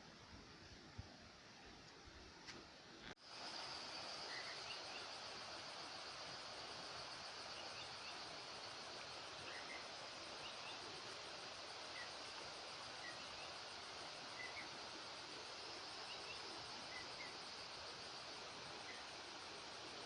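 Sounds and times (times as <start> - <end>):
insects droning: 3.1 - 20.0.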